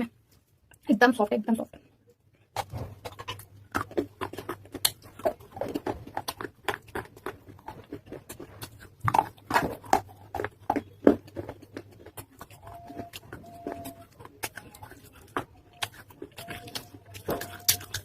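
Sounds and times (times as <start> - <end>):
chewing wet clay crunches: 1.7 - 18.0.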